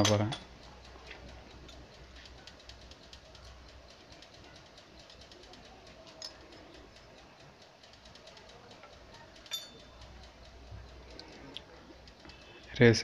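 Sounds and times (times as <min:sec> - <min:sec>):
faint workshop background: 0:00.0 - 0:13.0.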